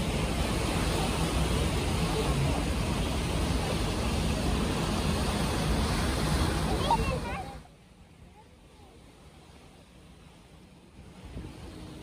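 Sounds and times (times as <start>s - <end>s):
low engine rumble: 0.0s - 12.0s
water noise: 0.0s - 12.0s.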